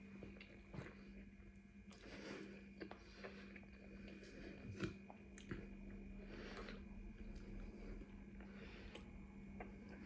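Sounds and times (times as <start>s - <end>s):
low electrical hum: 0.0s - 10.0s
person chewing: 0.2s - 10.0s.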